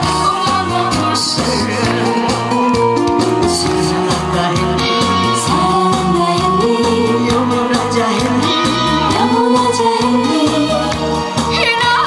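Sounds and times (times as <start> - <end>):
woman singing into microphone: 0.0 - 1.7, 3.9 - 12.0
pop song backing track: 0.0 - 12.0.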